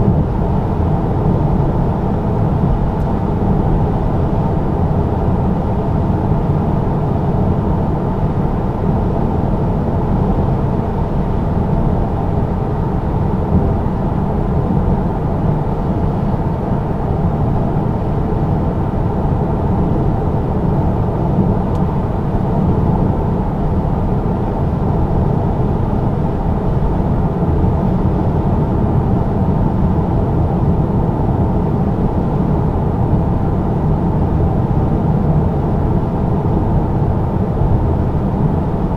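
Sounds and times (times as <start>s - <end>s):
diesel engine hum: 0.0s - 38.9s
road and tyre noise: 0.0s - 38.9s.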